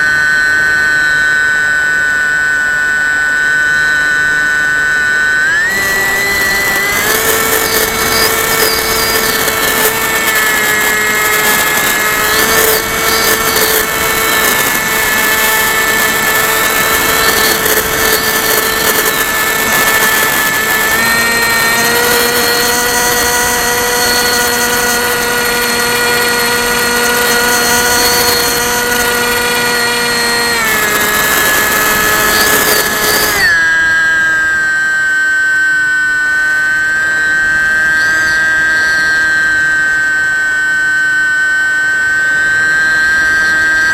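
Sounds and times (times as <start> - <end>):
model plane motor whine: 0.0 - 43.9.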